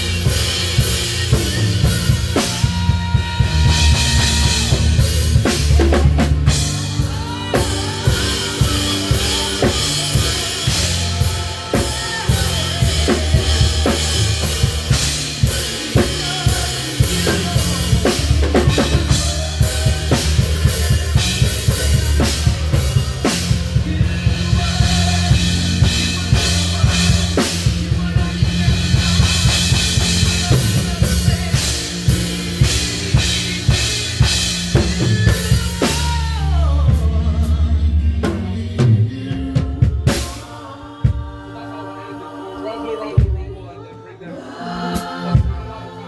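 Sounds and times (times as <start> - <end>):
bass line: 0.0 - 41.5
drum kit playing a groove: 0.0 - 41.7, 43.1 - 43.7, 44.7 - 46.0.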